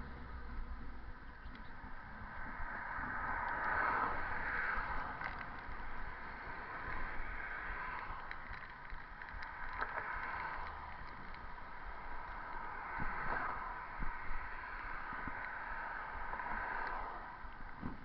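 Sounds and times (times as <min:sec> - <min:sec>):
road noise: 0:00.0 - 0:18.0
traffic: 0:00.0 - 0:18.0
wind: 0:00.0 - 0:18.0
faint clicks: 0:01.3 - 0:18.0.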